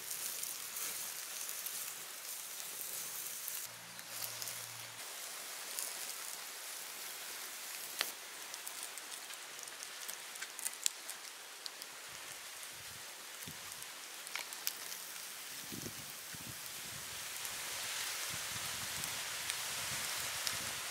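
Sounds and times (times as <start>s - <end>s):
fire crackling: 0.0s - 20.9s
meat sizzling over fire: 0.0s - 20.9s.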